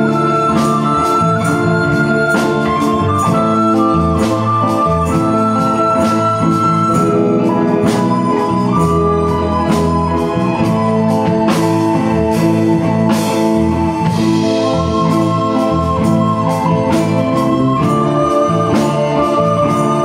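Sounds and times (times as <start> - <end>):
band with keyboards and bass: 0.0 - 20.0
soprano recorder melody: 0.0 - 20.0.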